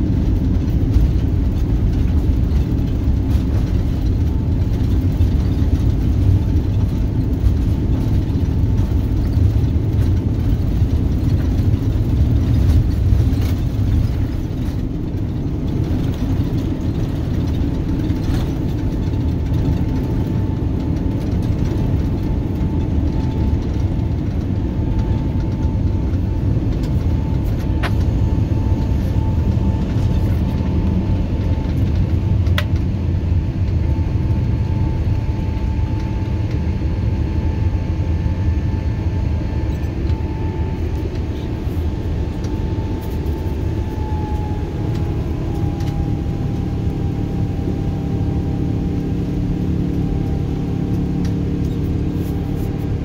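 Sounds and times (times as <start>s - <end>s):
faint engine whine: 0.0s - 53.0s
jet engines rumbling: 0.0s - 53.0s.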